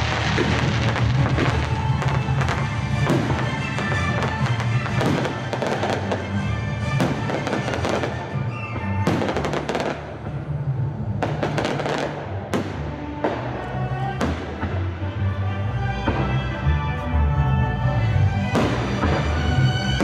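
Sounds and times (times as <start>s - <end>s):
fireworks bursting and crackling: 0.0s - 15.0s, 18.5s - 20.0s
orchestral music: 0.0s - 20.0s.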